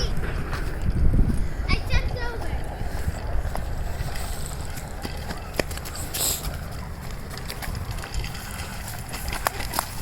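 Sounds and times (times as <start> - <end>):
footsteps crunching: 0.0 - 10.0
wind on microphone: 0.0 - 10.0.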